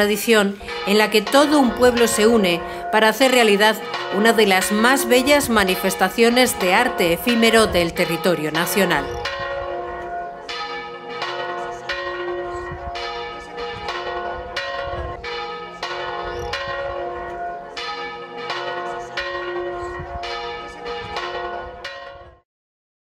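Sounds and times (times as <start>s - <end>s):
church bells pealing: 0.0s - 22.4s.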